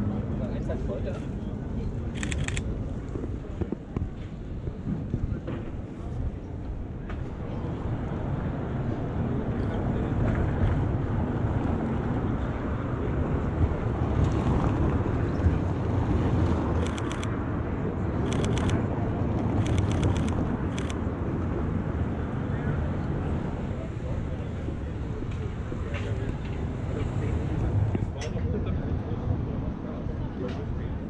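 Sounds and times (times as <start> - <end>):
city street noise: 0.0 - 31.0.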